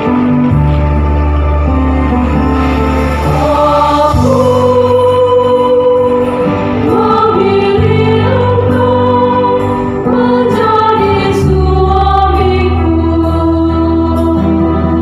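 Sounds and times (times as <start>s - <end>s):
mixed choir singing a hymn: 2.3s - 15.0s.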